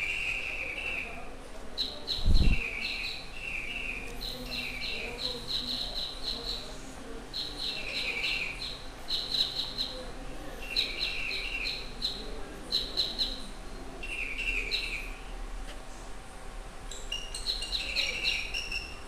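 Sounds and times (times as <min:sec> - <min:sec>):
small birds chirping: 0:00.0 - 0:15.2, 0:16.9 - 0:19.0.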